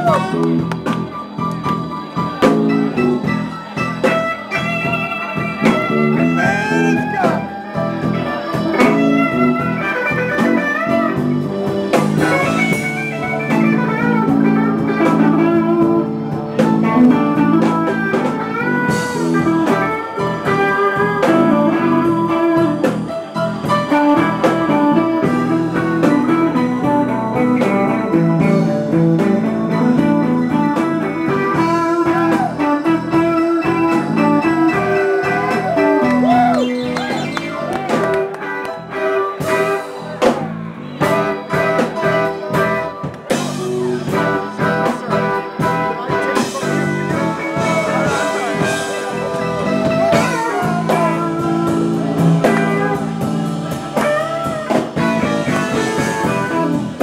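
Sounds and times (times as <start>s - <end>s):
lead guitar with bent notes: 0.0s - 57.0s
live blues band playing: 0.0s - 57.0s.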